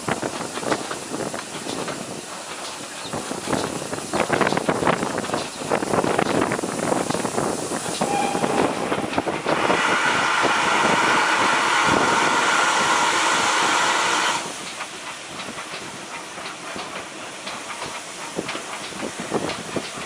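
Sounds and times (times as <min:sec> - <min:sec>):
loud hiss of steam: 0:00.0 - 0:20.0
train clicking and rattling on rails: 0:00.0 - 0:20.0.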